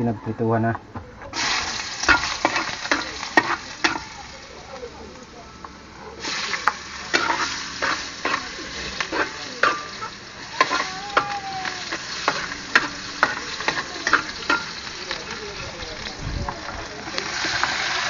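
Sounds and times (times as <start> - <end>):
metal spatula scraping wok: 1.3 - 4.4, 6.2 - 18.0
vegetables sizzling in hot oil: 1.3 - 18.0.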